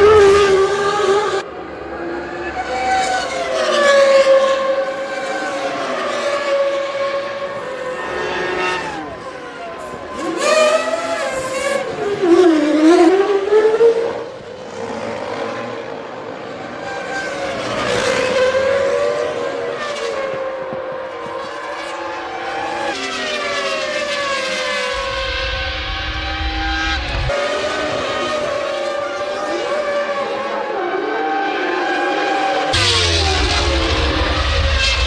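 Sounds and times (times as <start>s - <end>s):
racing car engines at high revs: 0.0s - 35.0s.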